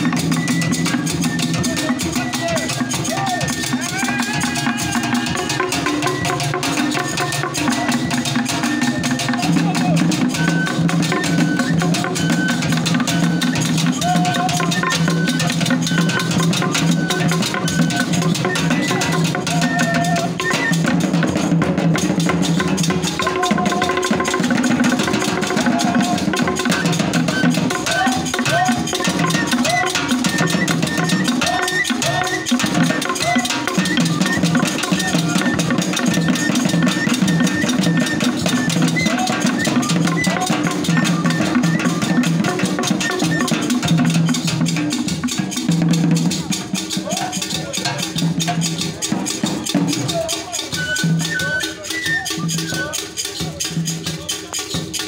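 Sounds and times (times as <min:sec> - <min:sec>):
drum ensemble playing: 0:00.0 - 0:55.0
ringing bell beat: 0:00.0 - 0:55.0.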